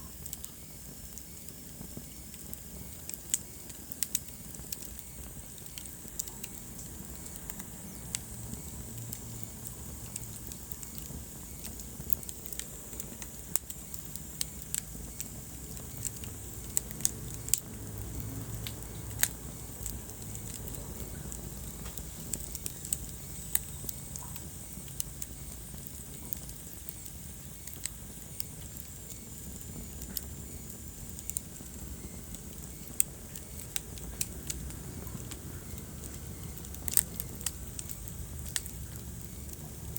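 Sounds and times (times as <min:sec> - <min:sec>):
low rumble of burning logs: 0:00.0 - 0:39.9
wood fire crackling: 0:00.0 - 0:39.9.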